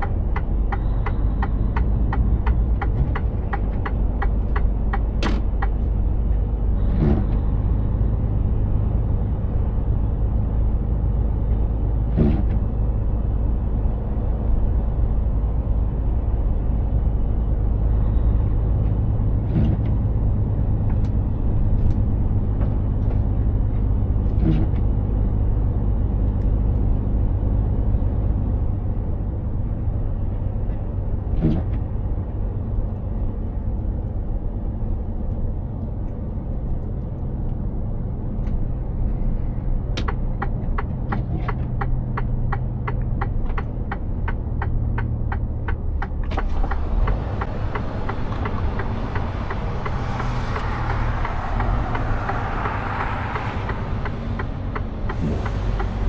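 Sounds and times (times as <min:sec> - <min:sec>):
truck diesel engine rumble: 0:00.0 - 0:56.0.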